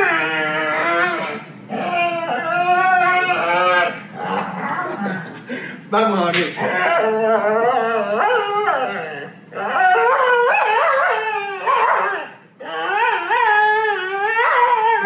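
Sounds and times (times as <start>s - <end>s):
dog howling whines: 0.0s - 5.2s, 6.6s - 15.0s.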